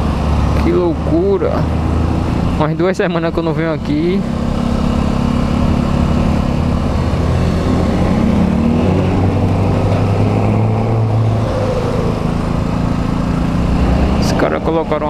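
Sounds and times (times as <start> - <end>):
road and wind noise: 0.0 - 15.0
vehicle engine hum: 0.0 - 15.0.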